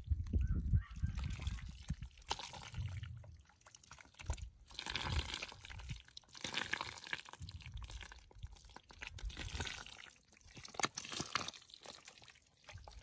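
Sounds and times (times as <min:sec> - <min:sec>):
hands squelching in wet mud: 0:01.2 - 0:13.0.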